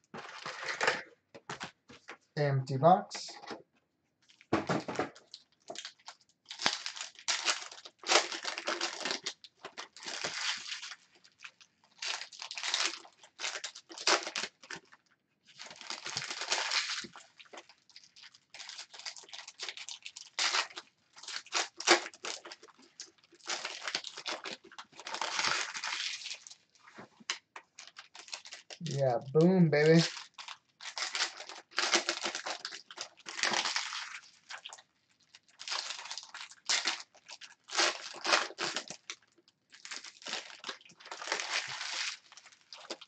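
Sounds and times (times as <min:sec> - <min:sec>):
foil wrappers crinkling and tearing: 0:04.3 - 0:29.1, 0:29.8 - 0:43.0.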